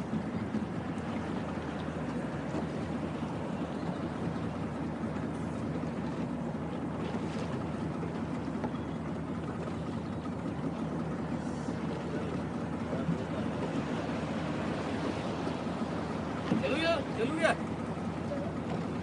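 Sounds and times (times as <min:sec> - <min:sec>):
boat engine humming: 0:00.0 - 0:19.0
water noise: 0:00.0 - 0:19.0.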